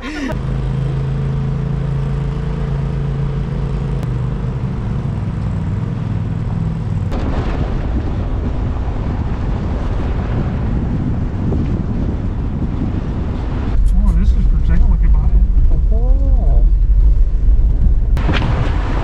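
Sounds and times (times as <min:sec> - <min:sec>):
engine running at low speed: 0:00.0 - 0:19.0.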